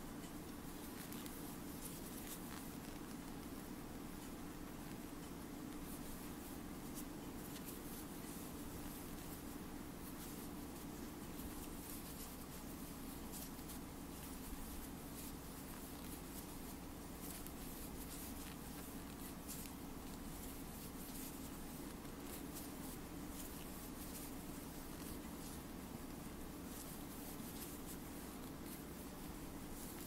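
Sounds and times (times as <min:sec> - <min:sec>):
crochet hook rustling yarn: 0:00.0 - 0:30.0
low room hum: 0:00.0 - 0:30.0.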